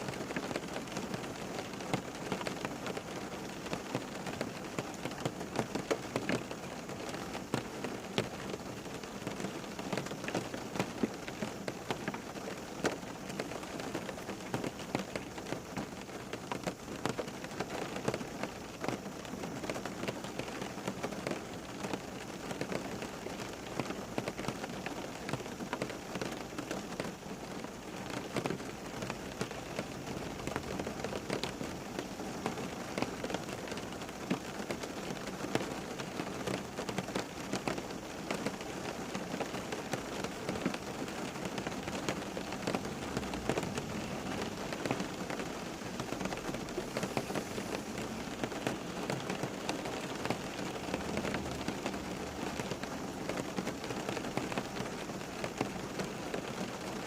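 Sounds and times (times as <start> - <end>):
rain pattering on hard surface: 0.0 - 57.0.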